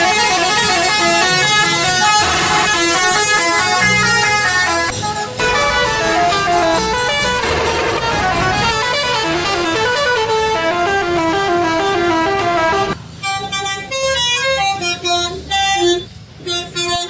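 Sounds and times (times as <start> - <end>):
multi-tone horn melody: 0.0 - 17.0.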